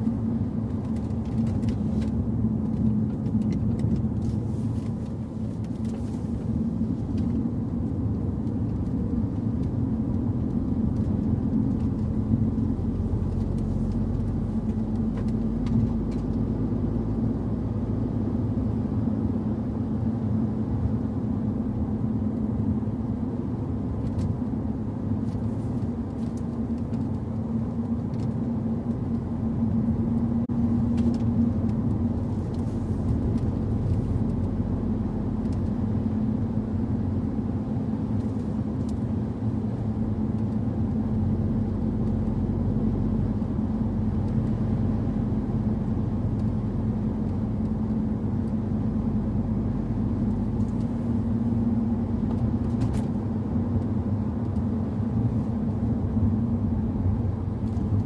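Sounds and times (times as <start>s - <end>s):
car engine cruising: 0.0s - 58.0s
road noise: 0.0s - 58.0s.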